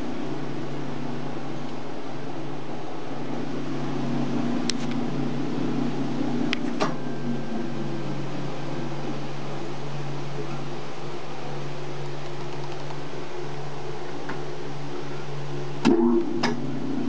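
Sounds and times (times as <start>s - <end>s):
mixer motor humming: 0.0s - 17.0s.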